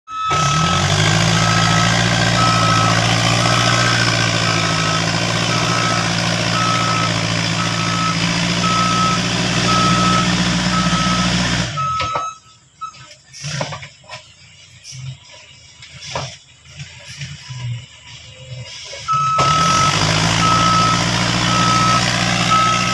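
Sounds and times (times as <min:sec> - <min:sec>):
reversing alarm beeping: 0:00.1 - 0:13.2, 0:17.4 - 0:22.9
diesel engine running: 0:00.1 - 0:22.9.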